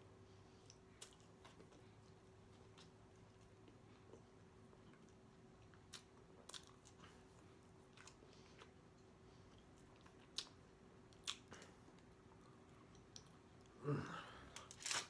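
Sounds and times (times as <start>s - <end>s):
faint closed-mouth chewing: 0.4s - 13.8s.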